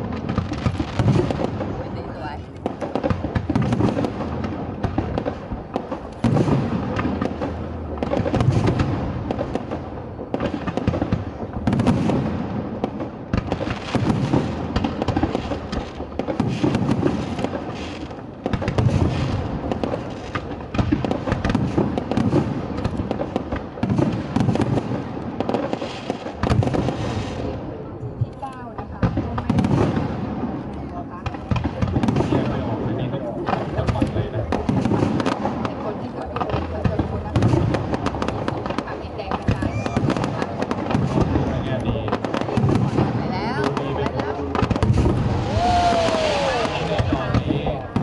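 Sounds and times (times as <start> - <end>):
fireworks crackling: 0.0 - 48.0
fireworks shells booming: 0.0 - 48.0.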